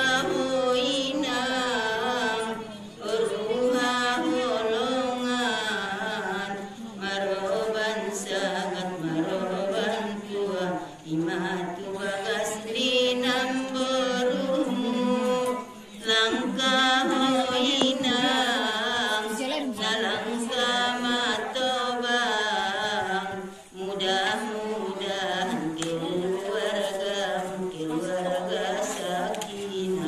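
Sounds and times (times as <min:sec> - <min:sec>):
women singing unaccompanied: 0:00.0 - 0:30.0.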